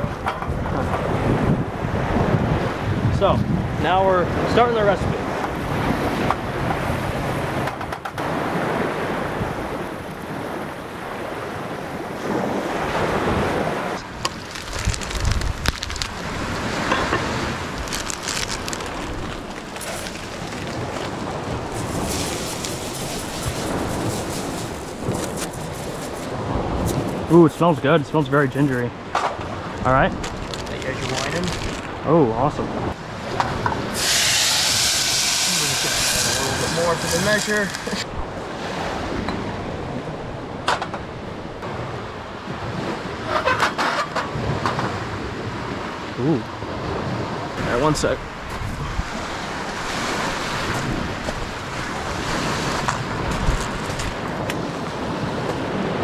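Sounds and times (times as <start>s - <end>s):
wind on microphone: 0.0s - 27.8s, 28.4s - 56.0s
surf breaking on shore: 0.6s - 39.8s, 41.6s - 56.0s.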